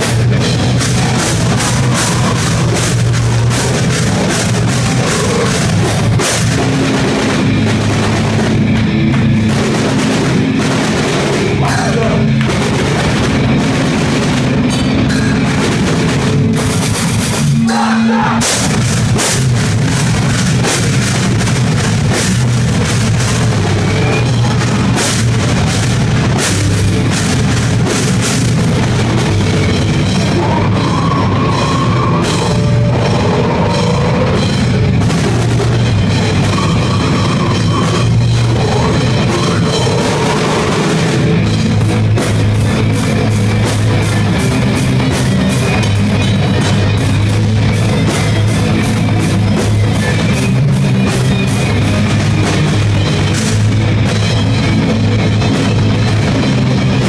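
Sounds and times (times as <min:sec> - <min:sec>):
distorted electric guitar: 0:00.0 - 0:57.0
drum kit: 0:00.0 - 0:57.0
live rock band playing: 0:00.0 - 0:57.0.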